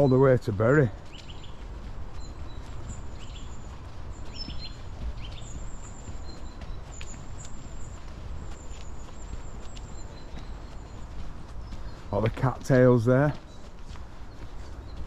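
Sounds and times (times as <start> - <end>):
footsteps on earth path: 0.0 - 15.0
small birds chirping: 0.0 - 15.0.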